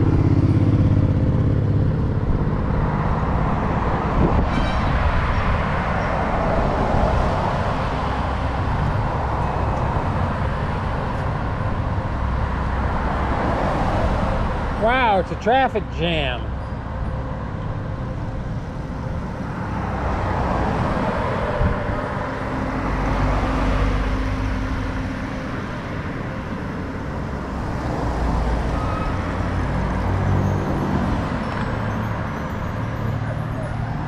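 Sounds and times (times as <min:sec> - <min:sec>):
heavy road traffic passing: 0:00.0 - 0:34.0.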